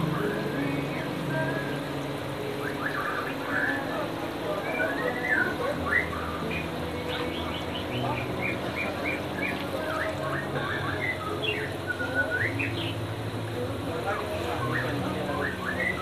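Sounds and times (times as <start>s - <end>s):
steady low hum: 0.0s - 16.0s
small birds chirping: 2.5s - 16.0s.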